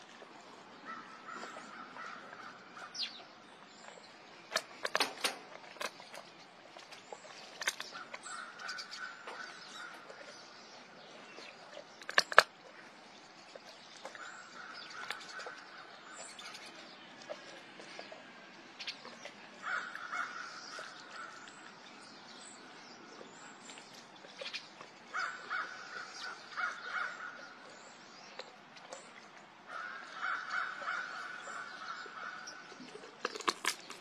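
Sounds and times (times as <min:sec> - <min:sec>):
tiger cub chewing meat: 0:00.0 - 0:34.0.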